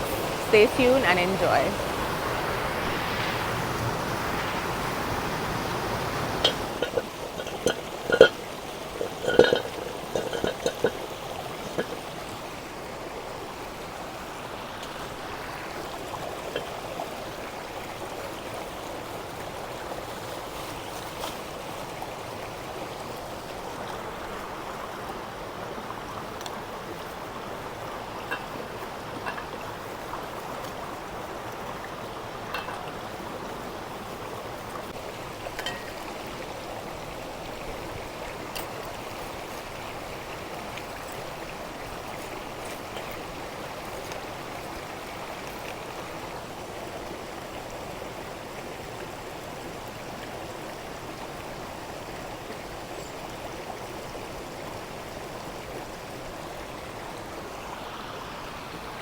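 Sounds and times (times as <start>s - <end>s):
river rushing: 0.0s - 47.7s.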